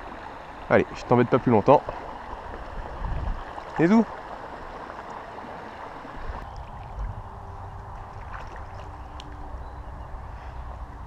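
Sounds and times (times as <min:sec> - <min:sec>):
river water rushing: 0:00.0 - 0:09.7.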